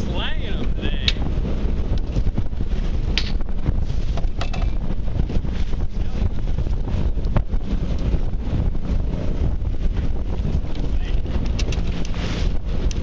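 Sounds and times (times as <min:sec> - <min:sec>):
boat engine droning: 0:00.0 - 0:13.0
wind buffeting microphone: 0:00.0 - 0:13.0.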